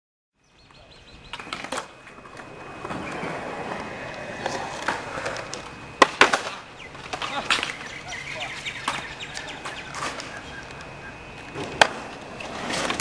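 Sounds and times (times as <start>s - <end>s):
skateboard wheels rolling on concrete: 0.4s - 13.0s
skateboard clacking on concrete: 1.3s - 13.0s.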